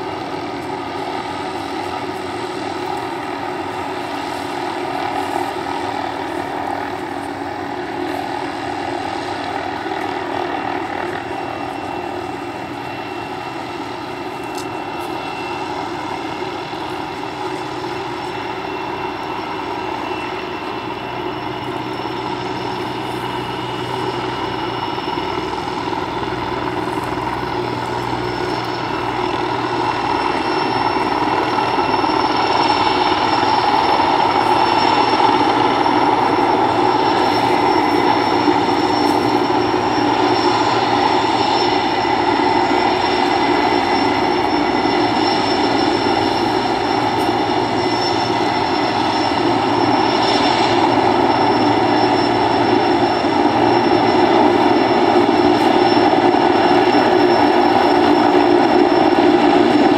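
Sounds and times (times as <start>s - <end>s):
helicopter turbines and rotors: 0.0s - 59.9s.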